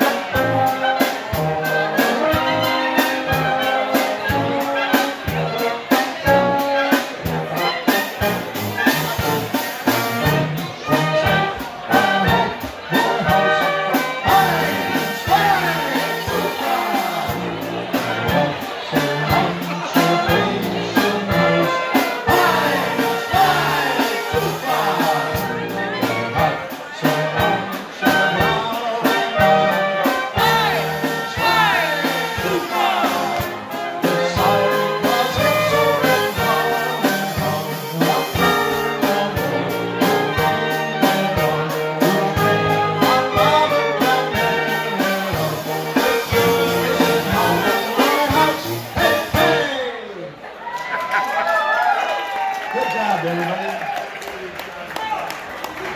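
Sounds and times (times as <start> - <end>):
drum kit beat: 0.0 - 49.8
brass band playing: 0.0 - 50.6.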